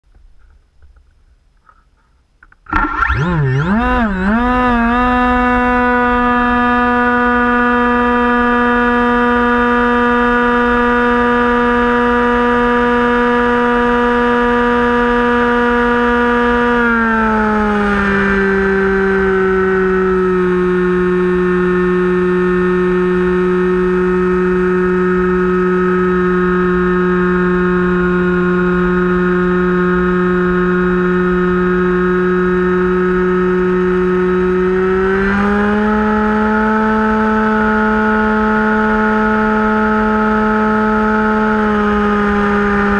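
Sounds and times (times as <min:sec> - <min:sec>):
electric motor and propeller whine: 0:02.4 - 0:42.9.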